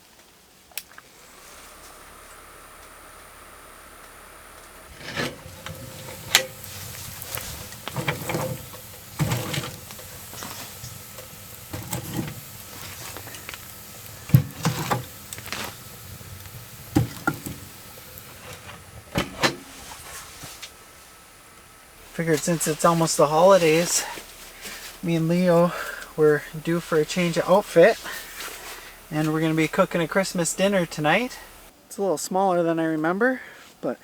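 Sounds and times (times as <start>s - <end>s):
rustling: 0.9s - 31.7s.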